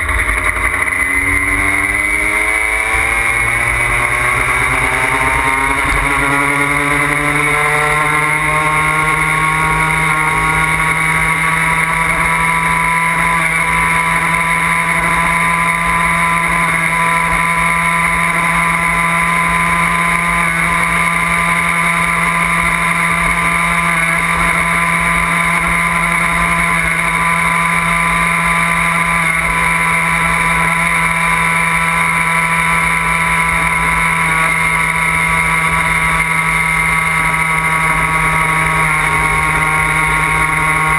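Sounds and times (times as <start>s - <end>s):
moped engine: 0.0s - 40.9s.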